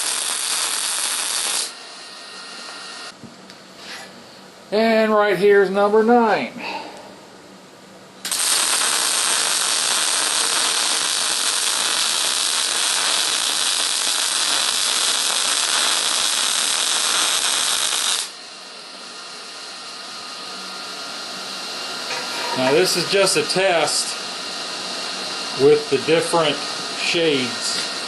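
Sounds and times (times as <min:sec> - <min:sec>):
electric arc welding hiss and crackle: 0:00.0 - 0:03.2, 0:08.2 - 0:28.0
faint steady hiss: 0:04.3 - 0:28.0.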